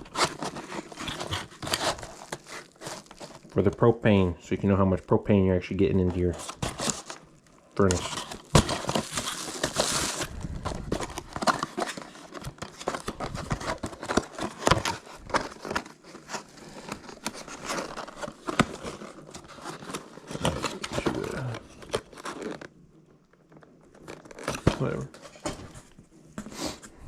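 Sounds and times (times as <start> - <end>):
packaging rustling and crinkling: 0.0 - 4.8, 5.8 - 27.0.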